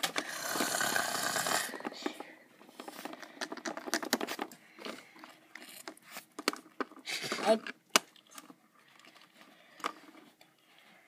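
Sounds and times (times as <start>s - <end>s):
plastic toys clicking and tapping: 0.0s - 10.2s.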